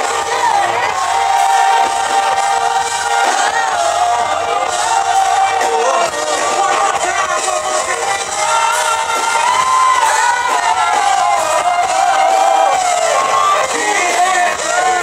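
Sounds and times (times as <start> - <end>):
live band playing slow song: 0.0 - 15.0
man singing: 0.0 - 15.0.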